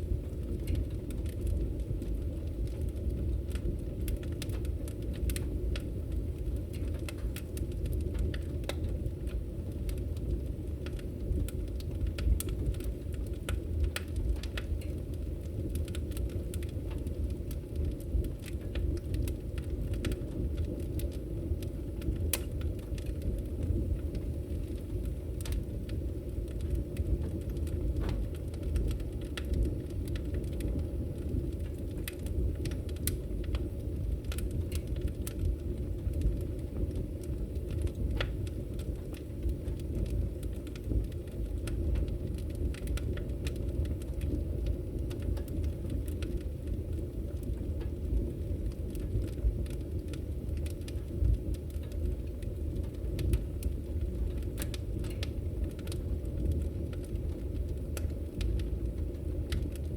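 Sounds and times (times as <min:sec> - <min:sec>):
fire crackling and popping: 0:00.0 - 0:59.9
fire roaring: 0:00.0 - 0:59.9.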